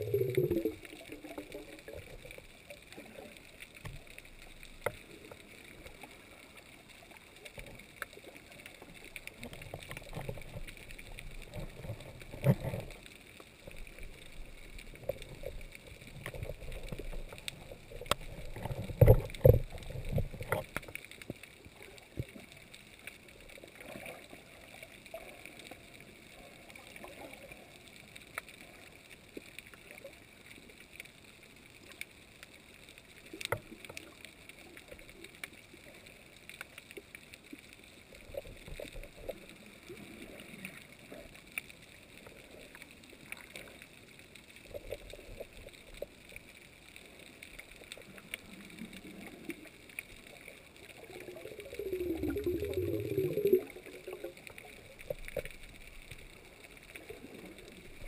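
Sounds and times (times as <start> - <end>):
small underwater clicks: 0.0 - 58.0
underwater sloshing and surge: 0.0 - 58.0.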